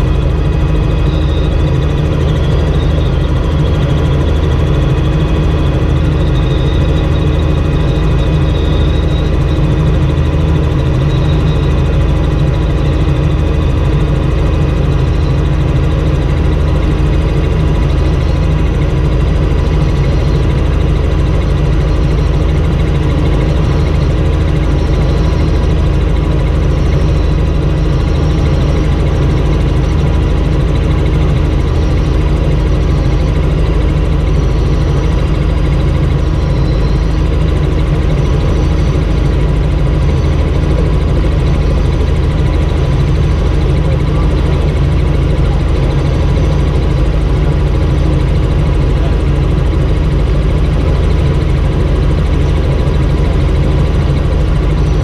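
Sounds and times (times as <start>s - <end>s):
helicopter drone from cabin: 0.0s - 55.0s.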